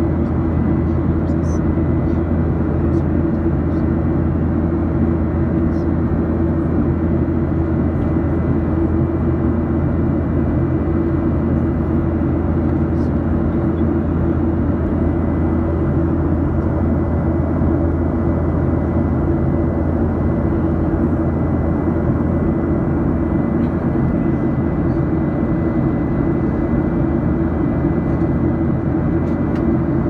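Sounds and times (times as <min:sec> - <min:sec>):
jet engines droning: 0:00.0 - 0:30.0.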